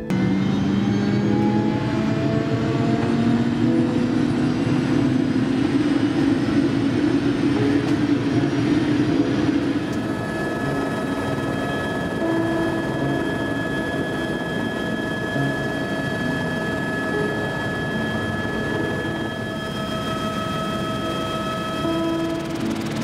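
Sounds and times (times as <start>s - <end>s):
constant high whine: 0.0s - 23.0s
helicopter turbine and rotor noise: 0.0s - 23.0s.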